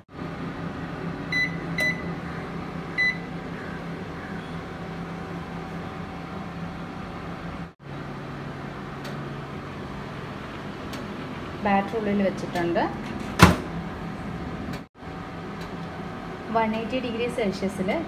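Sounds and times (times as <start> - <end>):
microwave oven humming: 0.0 - 18.0.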